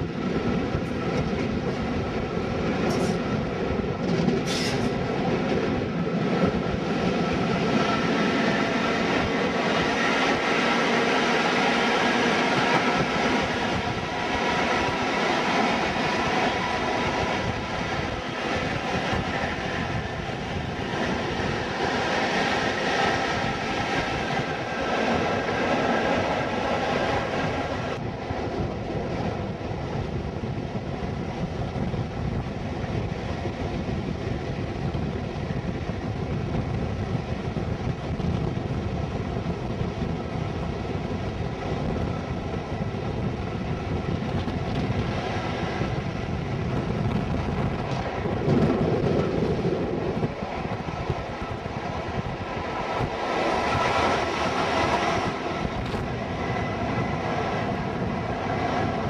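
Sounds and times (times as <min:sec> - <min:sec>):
diesel locomotive engine: 0:00.0 - 0:59.0
wind buffeting microphone: 0:00.0 - 0:59.0.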